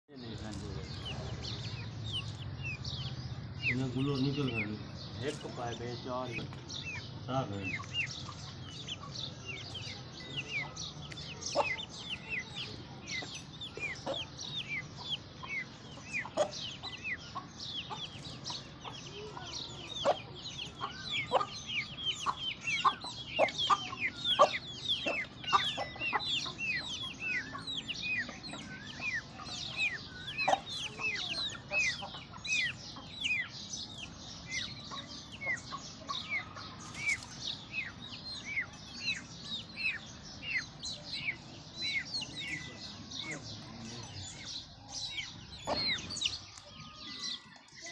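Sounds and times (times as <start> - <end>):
chickens clucking and peeping: 0.1 - 47.9.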